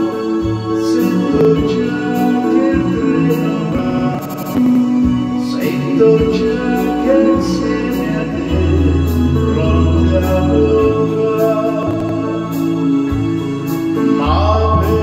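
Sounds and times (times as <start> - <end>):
man singing into microphone: 0.0 - 13.0, 13.9 - 15.0
pop backing track: 0.0 - 15.0.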